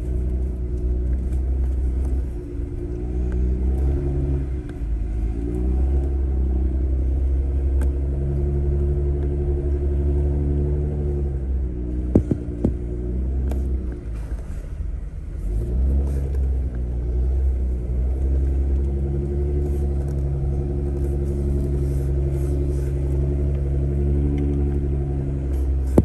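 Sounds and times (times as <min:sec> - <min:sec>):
engine running at low revs: 0:00.0 - 0:26.0.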